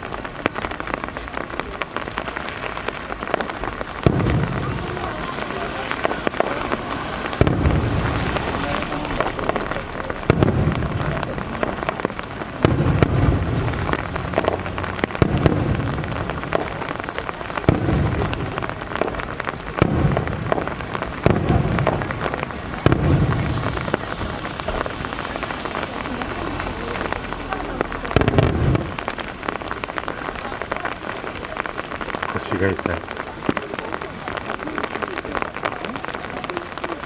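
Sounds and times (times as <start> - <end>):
firework booms: 0.0 - 37.0
rain pattering: 0.0 - 37.0.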